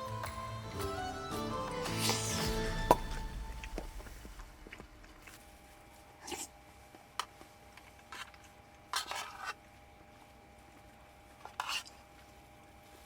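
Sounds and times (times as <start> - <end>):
faint steady hum: 2.2 - 13.0.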